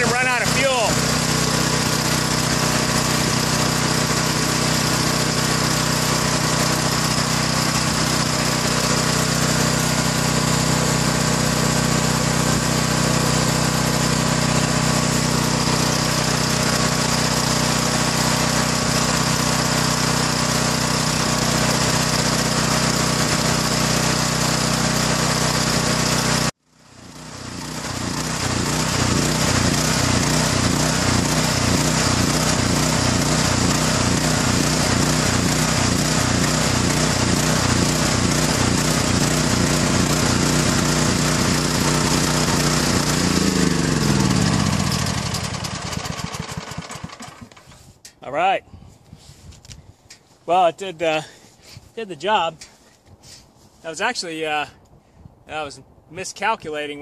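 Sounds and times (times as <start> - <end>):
generator engine running: 0.0 - 47.9.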